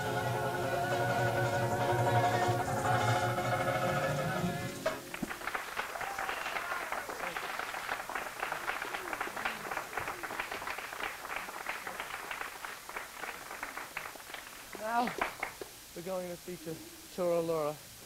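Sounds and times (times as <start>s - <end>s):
audience applauding: 1.0s - 15.8s.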